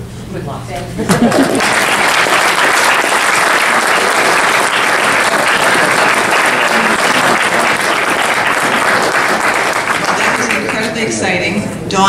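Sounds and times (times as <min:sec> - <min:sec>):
audience applauding: 0:01.1 - 0:11.1.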